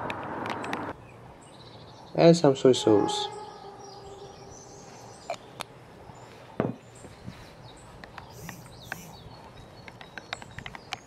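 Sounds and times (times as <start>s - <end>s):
birds chirping faintly: 0.7s - 11.0s.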